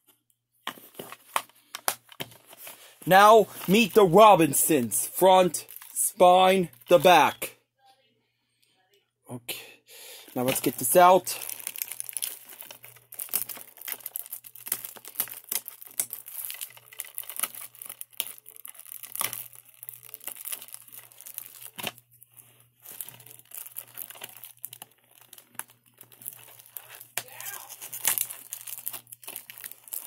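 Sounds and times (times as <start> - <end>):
plastic wrap crinkling and tearing: 0.7 - 7.1, 10.2 - 30.0.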